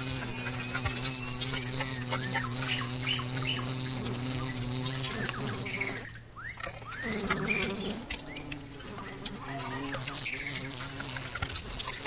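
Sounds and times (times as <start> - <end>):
insect buzzing: 0.0 - 6.1, 6.7 - 12.0.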